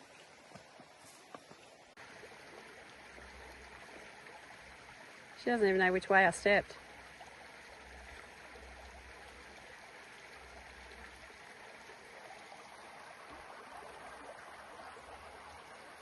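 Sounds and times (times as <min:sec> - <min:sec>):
creek water running over stones: 0:00.0 - 0:16.0.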